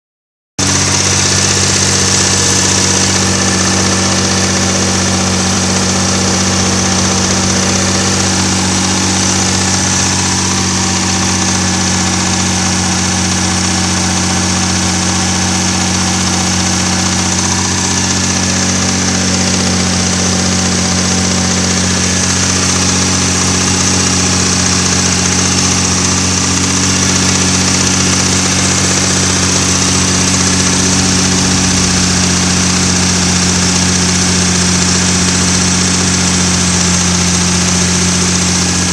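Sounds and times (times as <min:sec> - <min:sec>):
car engine idling: 0:00.6 - 0:38.9
engine knocking: 0:00.6 - 0:38.9.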